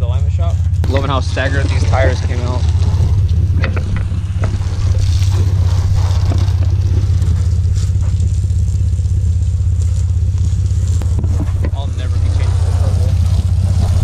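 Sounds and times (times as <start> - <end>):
engine droning: 0.0 - 14.0
hose spraying water: 0.7 - 14.0.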